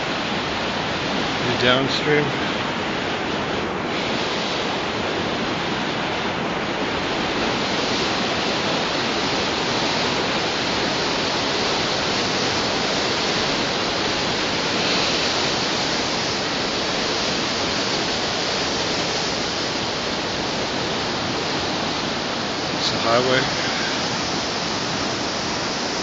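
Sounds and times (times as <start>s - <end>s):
whitewater rapids rushing: 0.0s - 26.0s.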